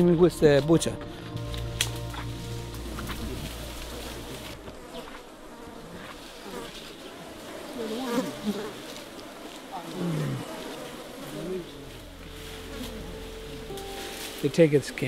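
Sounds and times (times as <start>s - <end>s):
flies buzzing: 1.0s - 15.0s.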